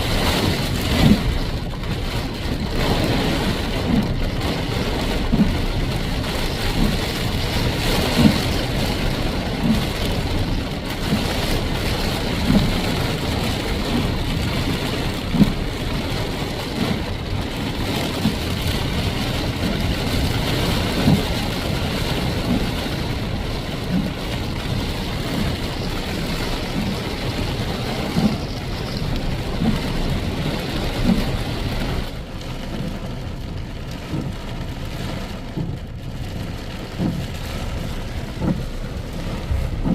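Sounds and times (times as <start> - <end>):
heavy rain: 0.0 - 39.9
vehicle driving through rain: 0.0 - 39.9.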